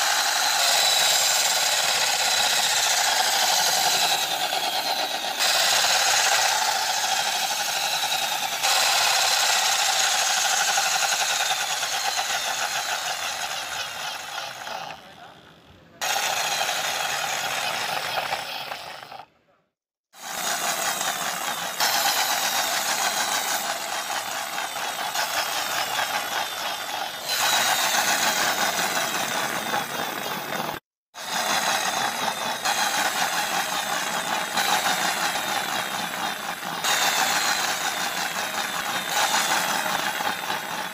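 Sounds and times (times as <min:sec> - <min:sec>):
toy car electric motor whirring: 0:00.0 - 0:19.3, 0:20.1 - 0:40.9.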